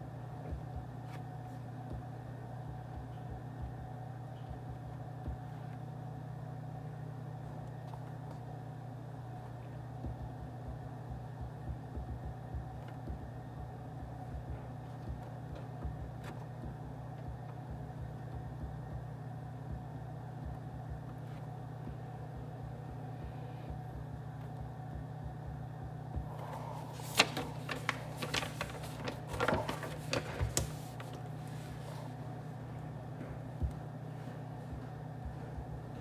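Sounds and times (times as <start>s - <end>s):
office ambience hum: 0.0s - 36.0s.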